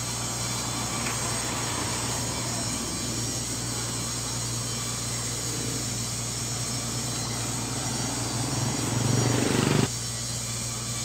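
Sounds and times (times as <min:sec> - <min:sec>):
road traffic hum: 0:00.0 - 0:09.9
vehicle passing: 0:00.0 - 0:09.9.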